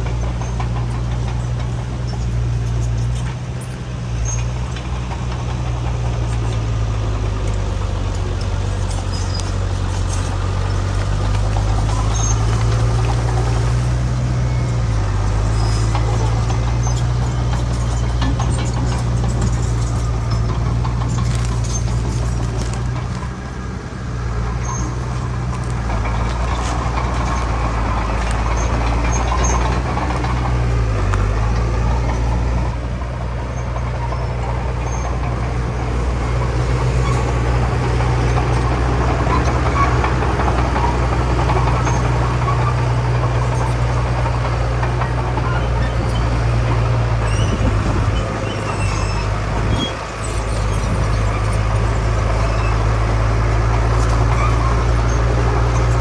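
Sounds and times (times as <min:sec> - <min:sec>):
diesel earthmoving machinery engine: 0:00.0 - 0:56.0.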